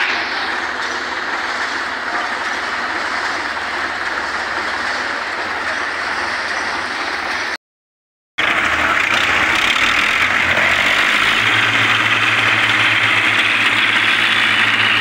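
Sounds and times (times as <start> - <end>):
diesel tractor engine running: 0.0 - 7.6, 8.4 - 15.0.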